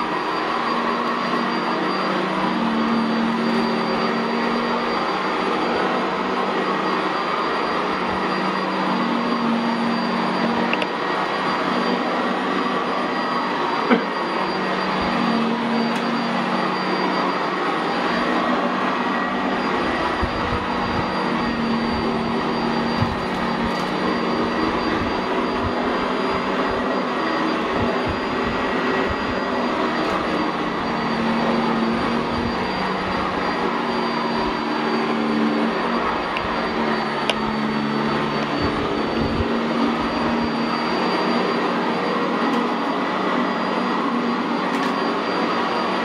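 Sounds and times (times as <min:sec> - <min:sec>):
vacuum cleaner running: 0:00.0 - 0:46.0.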